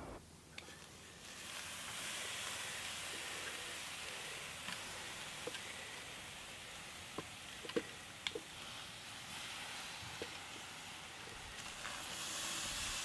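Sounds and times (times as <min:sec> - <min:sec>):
food sizzling on grill: 0:00.0 - 0:13.0.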